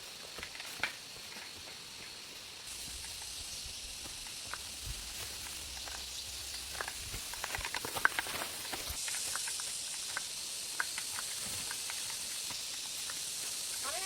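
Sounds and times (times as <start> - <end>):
fire crackles and pops: 0.0 - 14.0
food sizzling over fire: 0.0 - 14.0.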